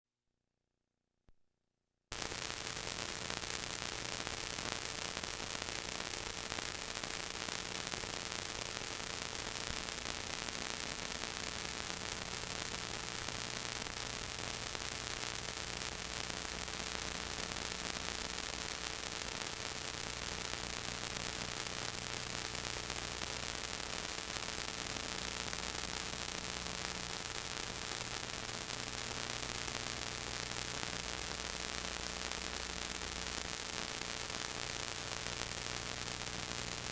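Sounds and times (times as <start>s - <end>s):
static hiss: 2.1s - 36.9s.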